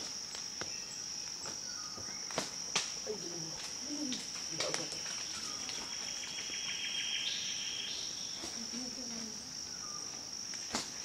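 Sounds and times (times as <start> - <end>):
insect high-pitched whine: 0.0 - 11.0
insect lower buzz: 0.0 - 11.0.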